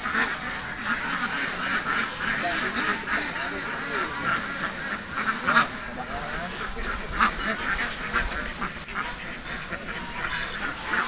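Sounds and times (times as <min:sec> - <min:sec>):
flock of ducks quacking: 0:00.0 - 0:11.0.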